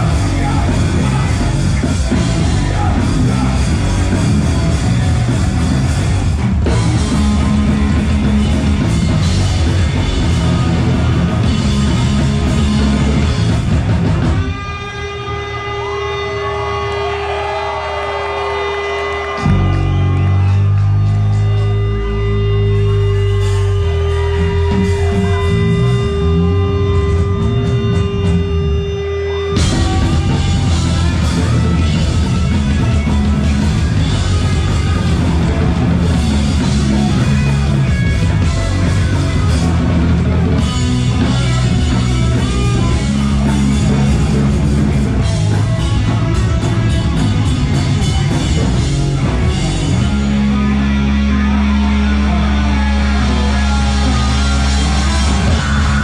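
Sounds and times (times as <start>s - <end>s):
bass notes: 0.0s - 56.0s
drums: 0.0s - 56.0s
rock band playing live: 0.0s - 56.0s.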